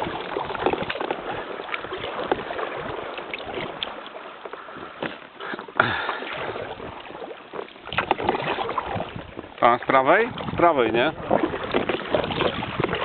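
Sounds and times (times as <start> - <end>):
paddle splashing water: 0.0 - 13.0.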